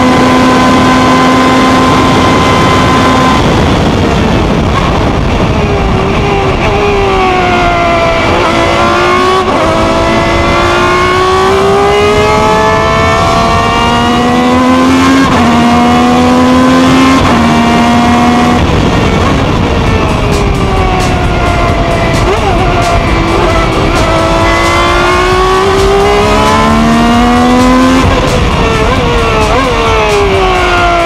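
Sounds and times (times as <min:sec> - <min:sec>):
race car engine at high revs: 0:00.0 - 0:31.0.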